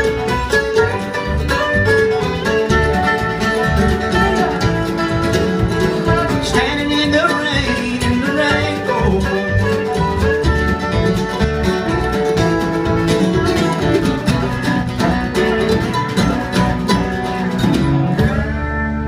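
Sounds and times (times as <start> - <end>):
acoustic bluegrass band playing: 0.0 - 19.0
plucked guitar: 0.0 - 19.0.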